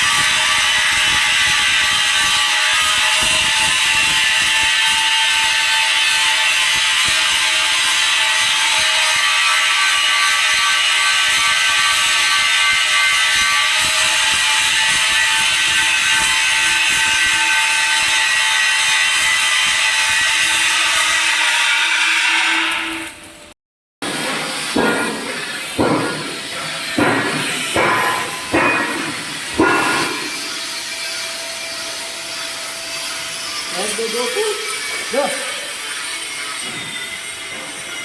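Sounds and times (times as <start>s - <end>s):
welding arc crackling: 0.0s - 23.3s, 24.0s - 38.0s.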